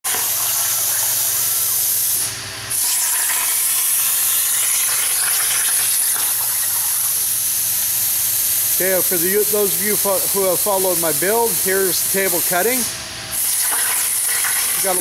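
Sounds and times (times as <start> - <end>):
plasma cutter hissing: 0.1 - 15.0.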